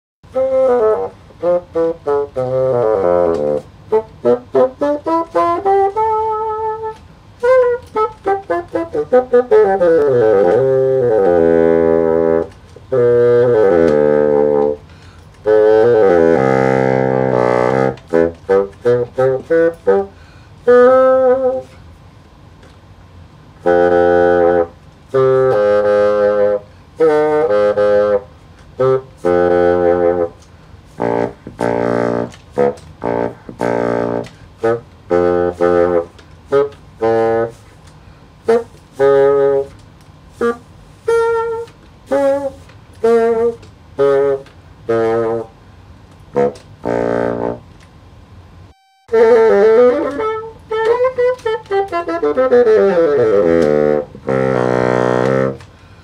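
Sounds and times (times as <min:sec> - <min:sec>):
solo bassoon melody: 0:00.3 - 0:21.9, 0:23.6 - 0:37.8, 0:38.4 - 0:45.6, 0:46.3 - 0:47.8, 0:48.6 - 0:55.7.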